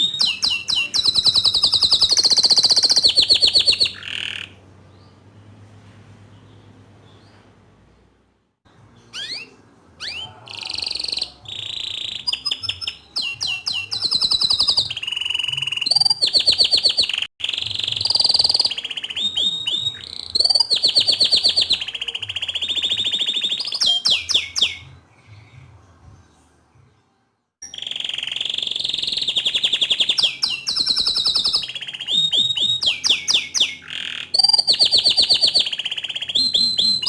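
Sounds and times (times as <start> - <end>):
canary singing trills: 0.0 - 5.5, 8.8 - 25.6, 27.6 - 37.0.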